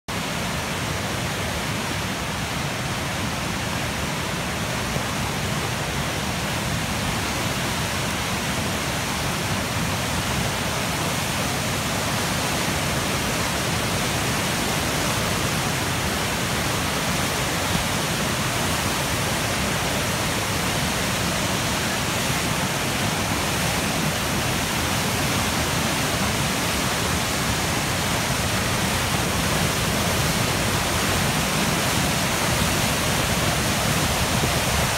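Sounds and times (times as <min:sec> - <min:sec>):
rushing floodwater: 0:00.1 - 0:34.9.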